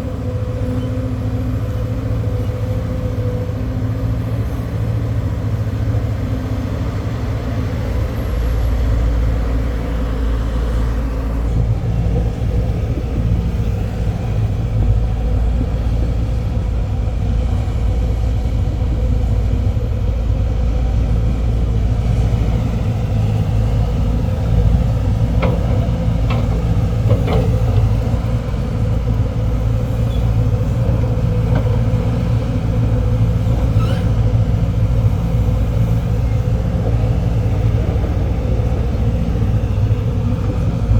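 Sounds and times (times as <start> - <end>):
excavator diesel engine rumbling: 0.0 - 40.9.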